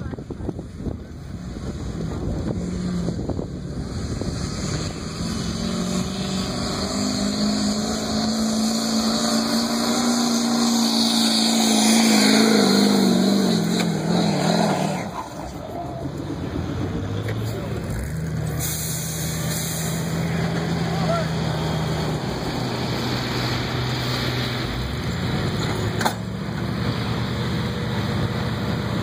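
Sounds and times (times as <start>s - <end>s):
diesel truck engine straining: 0.0s - 29.0s.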